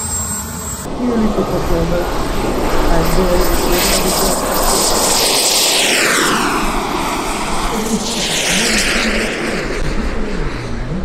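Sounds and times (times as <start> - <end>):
model aircraft engine passing: 0.0 - 11.0.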